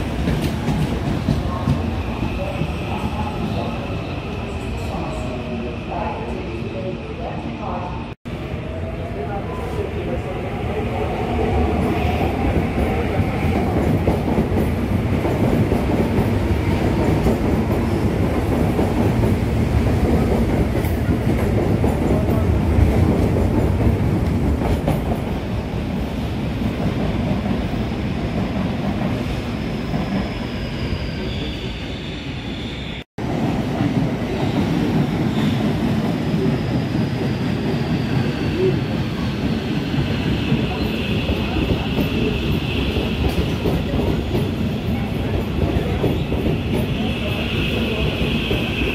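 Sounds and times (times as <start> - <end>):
train wheels rumbling on rails: 0.0 - 5.2, 8.8 - 31.5, 33.2 - 48.9.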